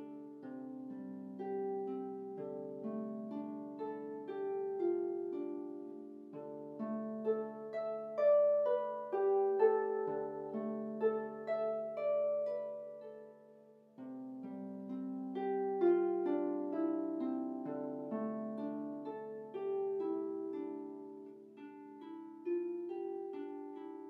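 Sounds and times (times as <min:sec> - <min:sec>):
solo harp playing: 0:00.0 - 0:24.0.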